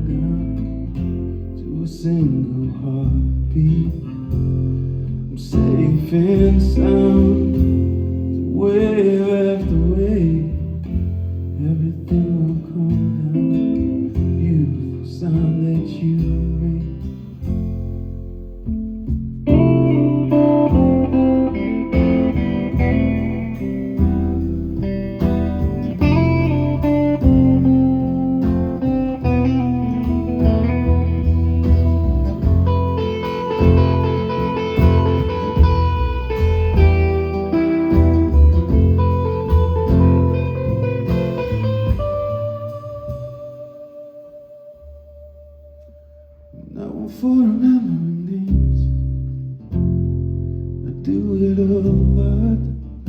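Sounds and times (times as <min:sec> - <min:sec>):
live band guitar break: 0:03.9 - 0:46.4.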